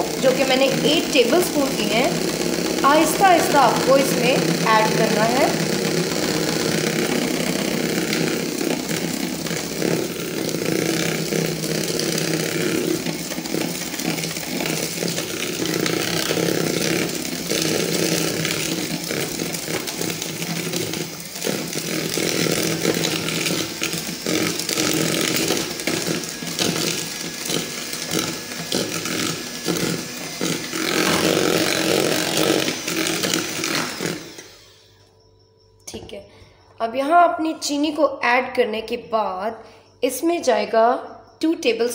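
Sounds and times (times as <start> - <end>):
electric hand mixer running: 0.0 - 35.3.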